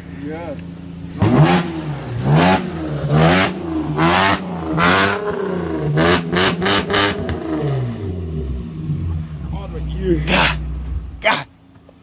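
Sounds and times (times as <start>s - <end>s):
car engine revving: 0.4s - 11.5s.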